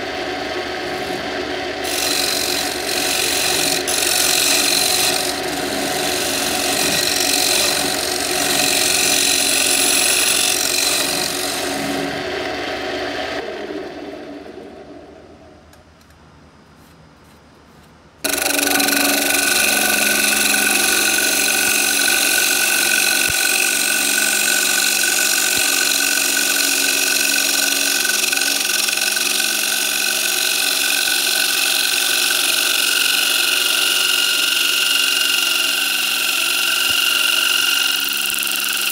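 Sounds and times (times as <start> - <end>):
lathe chisel cutting wood: 0.0 - 13.8, 18.2 - 38.9.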